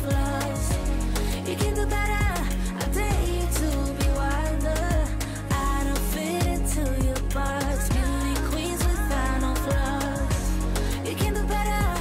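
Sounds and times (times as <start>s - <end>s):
pop music with deep bass: 0.0s - 12.0s.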